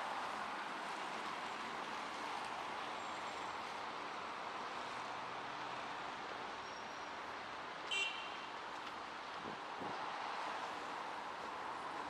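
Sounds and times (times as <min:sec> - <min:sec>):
cars driving along street: 0:00.0 - 0:12.0.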